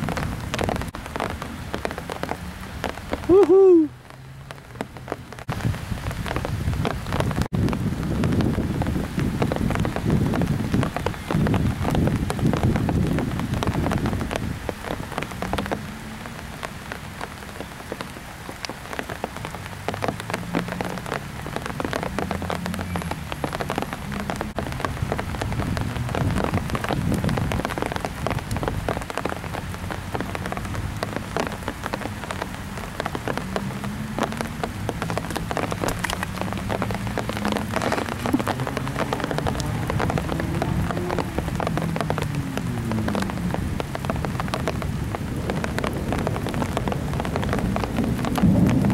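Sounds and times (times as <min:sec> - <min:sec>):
rain pattering on surfaces: 0:00.0 - 0:48.9.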